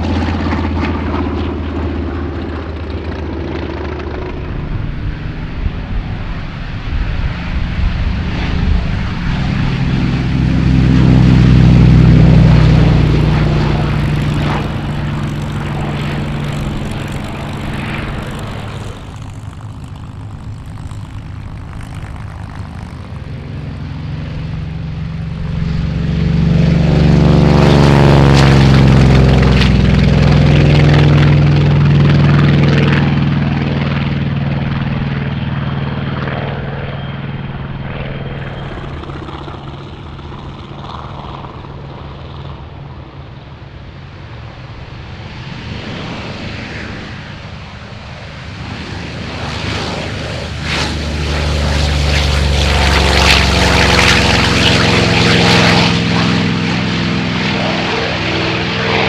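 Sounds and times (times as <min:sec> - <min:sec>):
radial engine plane at full power: 0:00.0 - 0:59.0
second radial engine plane taking off: 0:00.0 - 0:59.0.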